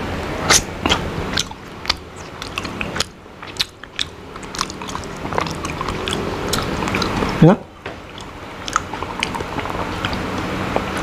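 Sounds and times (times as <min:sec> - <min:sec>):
person chewing with mouth clicks: 0:00.4 - 0:11.0.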